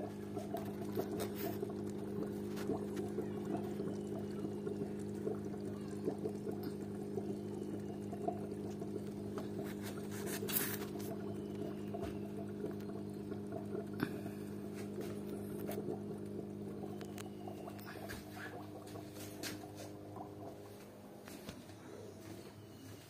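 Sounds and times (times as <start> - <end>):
aquarium filter bubbling and trickling: 0.0 - 23.0
steady low hum: 0.0 - 23.0.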